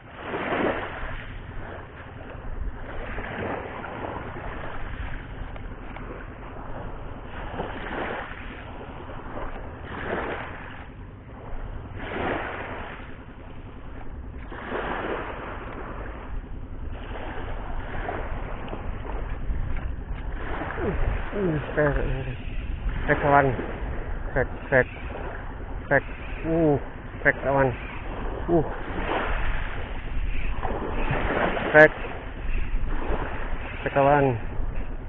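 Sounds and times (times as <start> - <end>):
small waves washing ashore: 0.0 - 35.0
wind rumble on microphone: 0.0 - 35.0.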